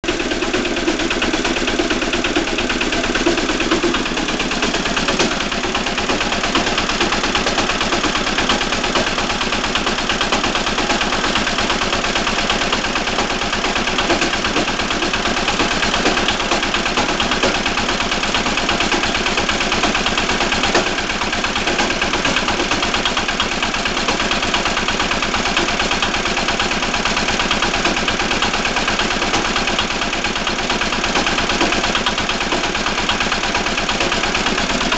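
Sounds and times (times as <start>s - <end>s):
tractor engine knocking: 0.0s - 34.9s.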